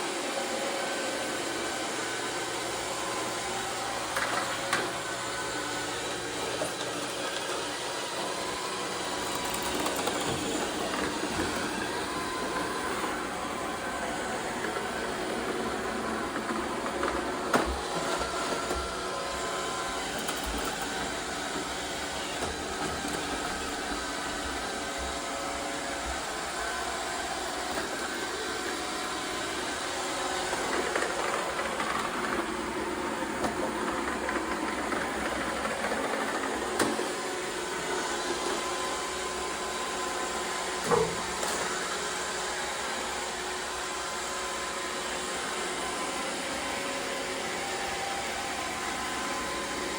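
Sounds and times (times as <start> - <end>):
robot vacuum motor whirring: 1.3 - 49.9.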